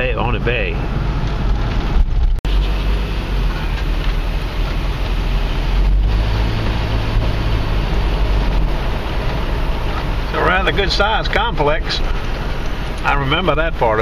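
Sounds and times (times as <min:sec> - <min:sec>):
road rumble inside car: 0:00.0 - 0:14.0.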